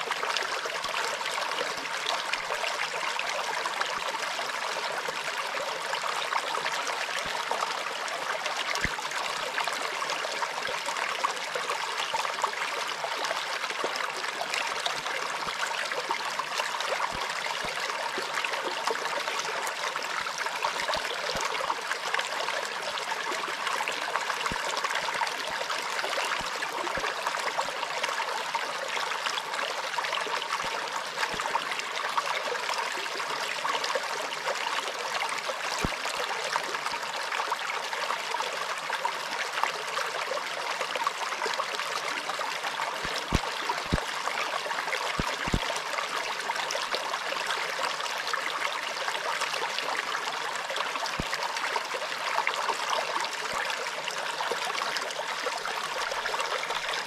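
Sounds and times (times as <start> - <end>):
creek babbling over stones: 0.0 - 57.0.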